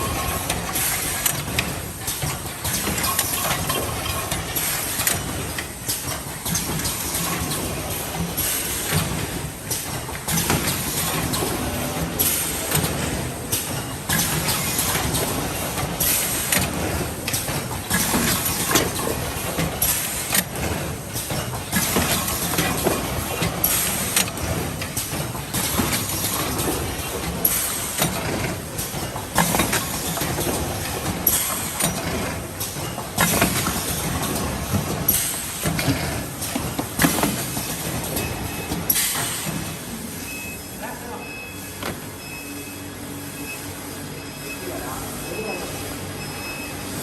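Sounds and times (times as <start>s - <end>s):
packaging machine clattering: 0.0s - 39.9s.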